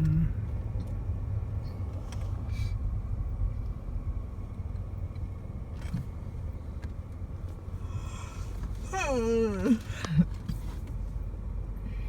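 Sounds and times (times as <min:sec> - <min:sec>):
car rumbling: 0:00.0 - 0:12.0.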